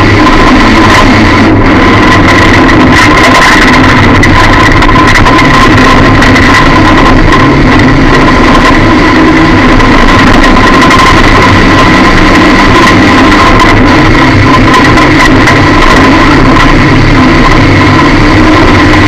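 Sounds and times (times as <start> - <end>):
car engine running loud: 0.0 - 19.0
steady high whine: 0.0 - 19.0.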